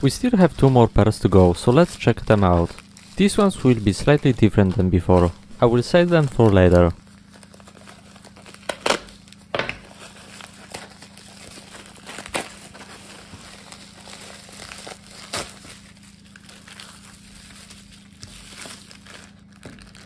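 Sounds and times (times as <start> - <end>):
plastic pouch crinkling and tearing: 0.0 - 20.0.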